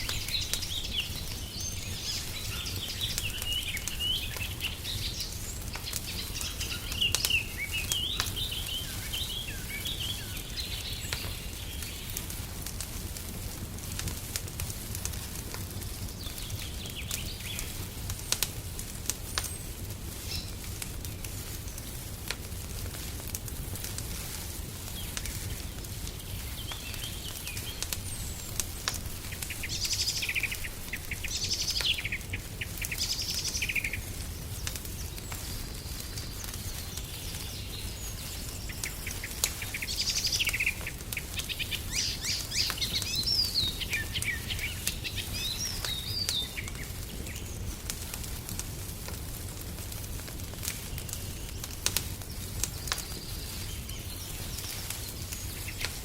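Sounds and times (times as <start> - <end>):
fireplace fire crackling: 0.0 - 56.0
songbirds chirping: 0.0 - 56.0.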